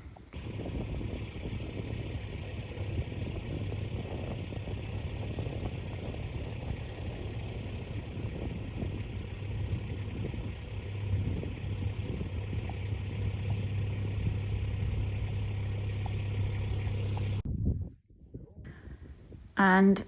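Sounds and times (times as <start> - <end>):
fast rattle: 0.0 - 17.4
vehicle engine humming: 0.0 - 17.4.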